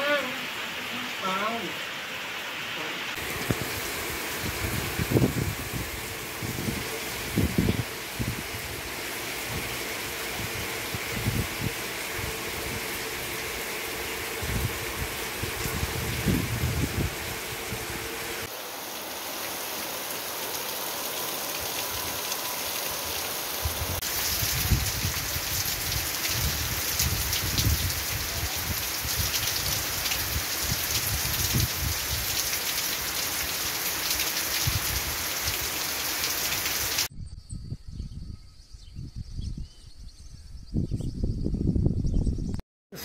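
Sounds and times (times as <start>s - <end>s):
heavy rain pouring: 0.0s - 37.1s.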